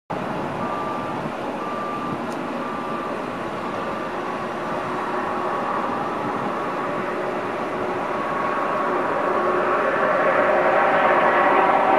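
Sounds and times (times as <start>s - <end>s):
jet roaring with engine whine: 0.1s - 11.9s
reversing beeper: 0.5s - 11.9s.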